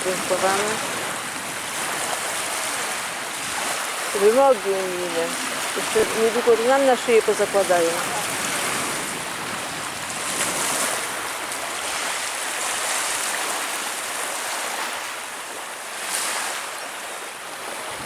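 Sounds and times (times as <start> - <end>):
small waves washing in: 0.0 - 18.0.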